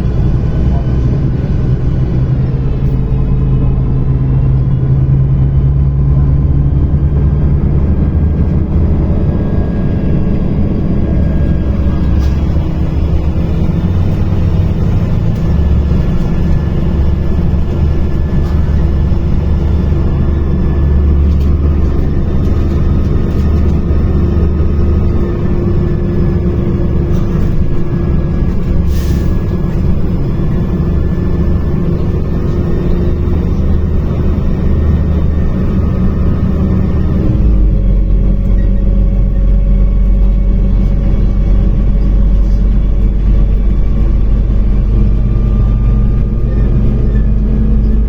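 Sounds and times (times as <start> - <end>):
bus diesel engine: 0.0 - 48.0
faint whine: 0.0 - 48.0
road rumble: 0.0 - 48.0.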